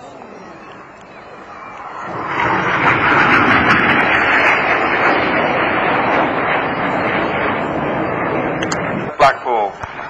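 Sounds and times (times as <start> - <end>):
jets flying past: 0.7 - 10.0.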